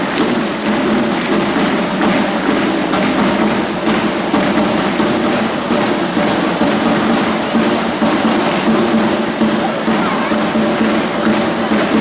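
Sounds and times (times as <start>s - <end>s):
dense steady hiss: 0.0s - 12.0s
loud music over sound system: 0.0s - 12.0s.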